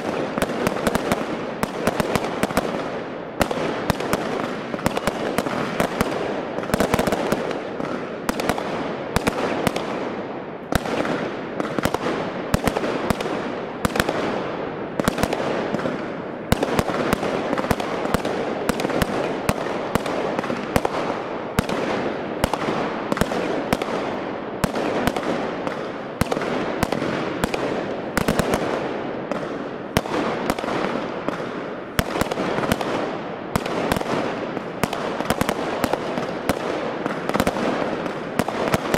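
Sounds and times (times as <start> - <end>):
crackle of bursting fireworks: 0.0 - 38.9
fireworks bangs: 0.0 - 38.9.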